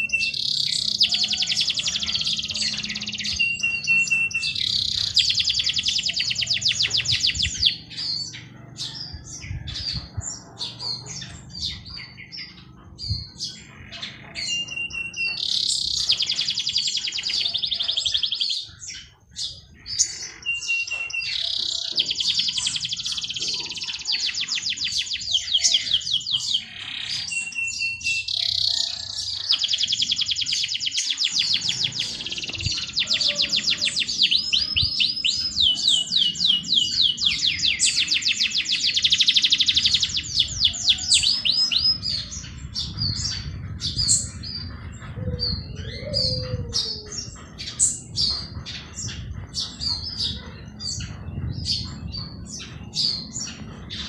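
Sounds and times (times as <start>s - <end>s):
songbird trilling: 0.0s - 54.0s.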